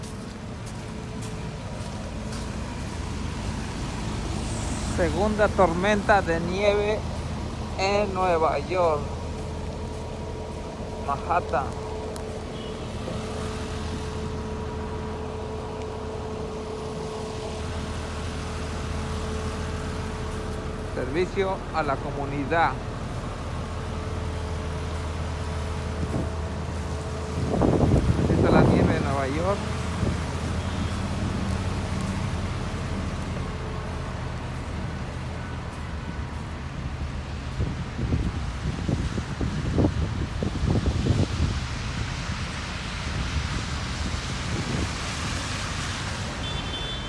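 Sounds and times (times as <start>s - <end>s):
motor vehicle engine rumble: 0.0s - 47.0s
street traffic noise: 0.0s - 47.0s.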